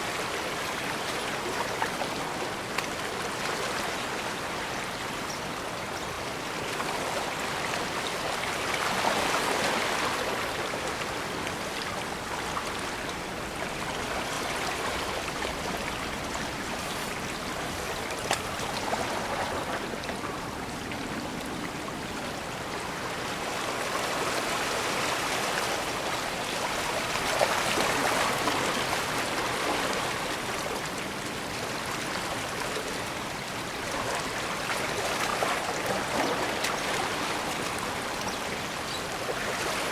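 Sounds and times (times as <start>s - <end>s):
waves lapping at shore: 0.0s - 39.9s.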